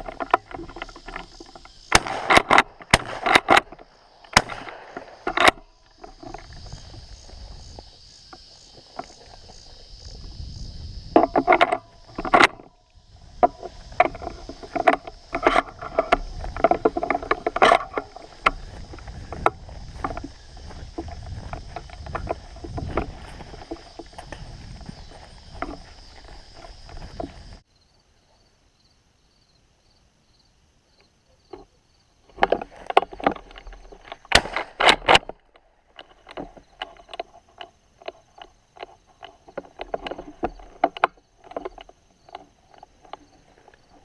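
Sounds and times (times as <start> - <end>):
knocks and rustles: 0.0 - 27.6, 32.3 - 44.0
insects chorus: 0.0 - 44.0.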